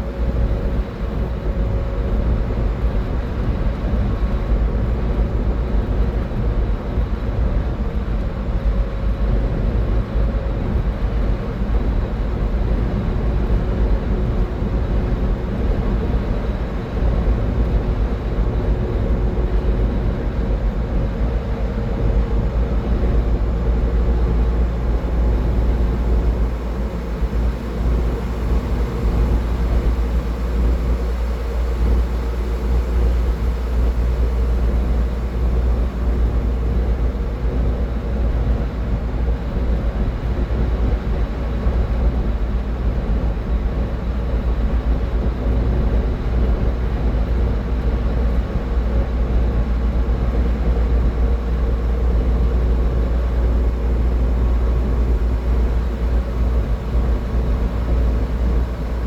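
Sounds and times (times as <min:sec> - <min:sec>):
car engine hum: 0:00.0 - 0:59.0
road and tyre noise: 0:00.0 - 0:59.0.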